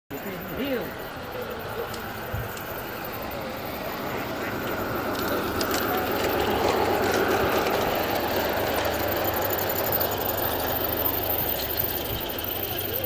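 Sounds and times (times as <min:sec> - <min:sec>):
model train running on track: 0:00.1 - 0:13.0.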